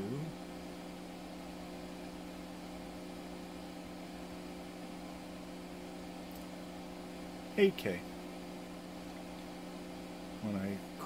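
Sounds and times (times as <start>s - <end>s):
electrical hum with held tones: 0.0s - 11.0s.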